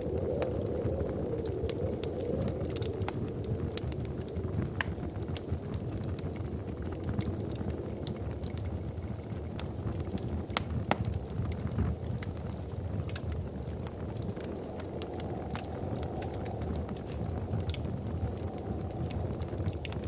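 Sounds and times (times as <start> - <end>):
fire pops and snaps: 0.0 - 20.0
low rush of flame: 0.0 - 20.0.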